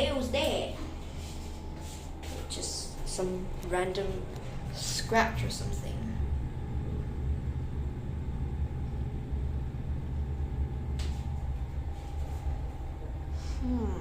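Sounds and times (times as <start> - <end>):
elevator low rumble: 0.0 - 14.0
faint hum: 0.0 - 14.0.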